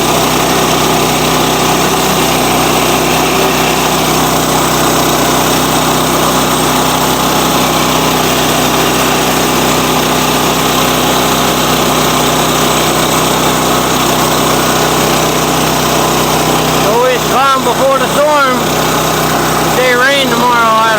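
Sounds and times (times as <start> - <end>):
small engine running loudly: 0.0 - 20.9.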